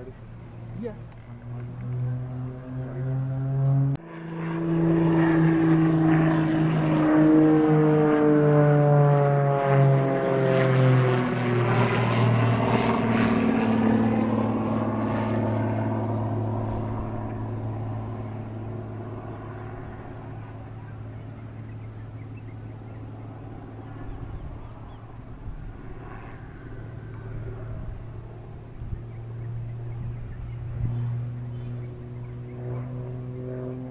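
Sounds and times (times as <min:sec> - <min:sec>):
propeller plane engine passing overhead: 0:00.0 - 0:33.9.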